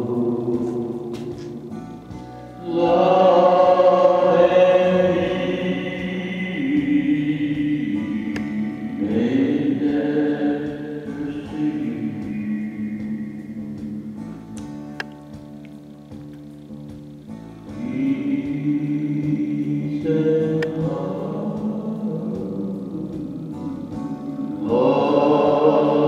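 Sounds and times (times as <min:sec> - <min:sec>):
choir-like singing: 0:00.0 - 0:01.8, 0:02.6 - 0:14.2, 0:17.7 - 0:26.0.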